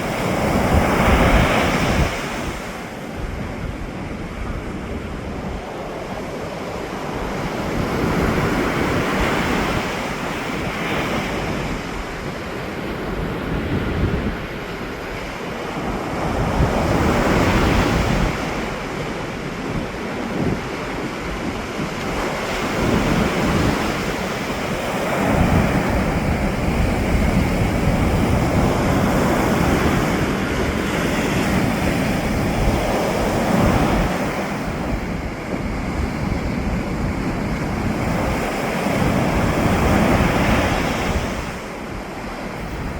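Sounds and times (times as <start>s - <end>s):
ocean waves breaking: 0.0s - 42.9s
wind buffeting microphone: 0.0s - 42.9s.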